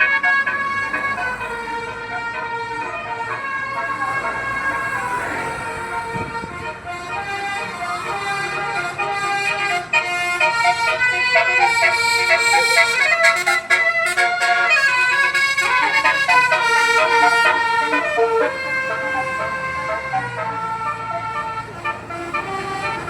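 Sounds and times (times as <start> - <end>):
multi-tone musical horn: 0.0 - 23.0.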